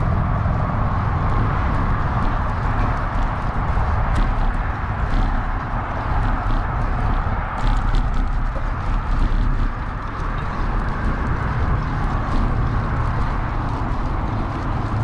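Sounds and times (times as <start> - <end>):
bike rattling clicks: 0.0 - 15.0
bike tyres rolling on pavement: 0.0 - 15.0
wind rushing on microphone: 0.0 - 15.0.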